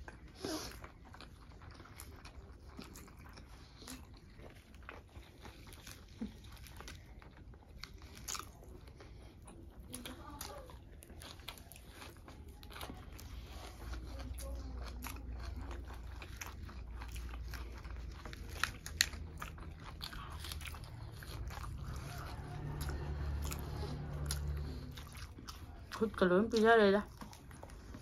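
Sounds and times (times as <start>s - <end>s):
chewing and crunching: 0.0s - 28.0s.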